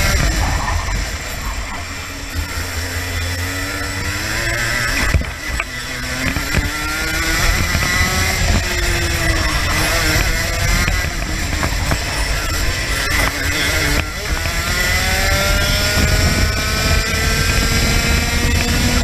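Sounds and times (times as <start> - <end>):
kart engine accelerating: 0.0 - 19.0.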